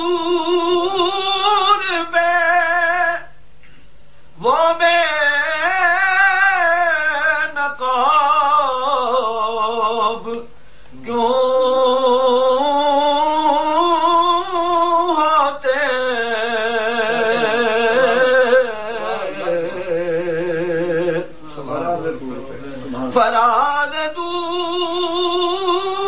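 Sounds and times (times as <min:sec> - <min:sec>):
man singing: 0:00.0 - 0:03.4, 0:04.4 - 0:21.4, 0:23.0 - 0:26.0.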